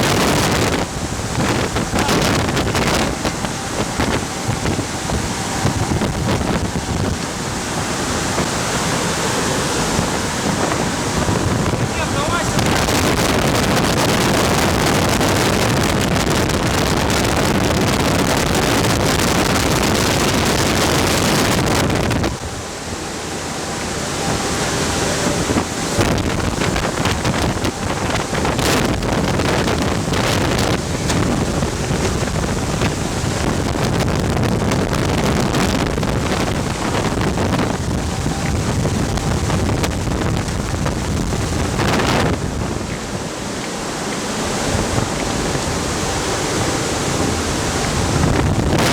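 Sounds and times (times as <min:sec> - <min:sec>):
ventilation fan air roar: 0:00.0 - 0:48.9.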